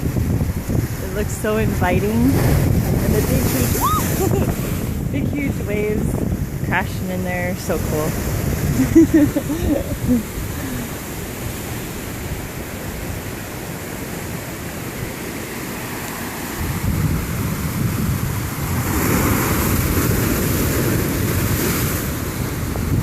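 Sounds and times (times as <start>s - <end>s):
wind buffeting microphone: 0.0s - 15.2s, 16.4s - 23.0s
ocean waves crashing: 0.0s - 23.0s.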